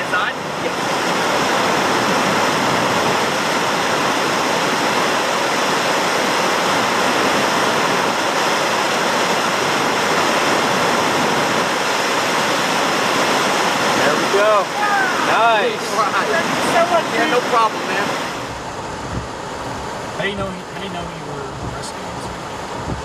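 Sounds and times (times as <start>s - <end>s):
heavy rain: 0.0s - 23.0s
hurricane wind: 0.0s - 23.0s.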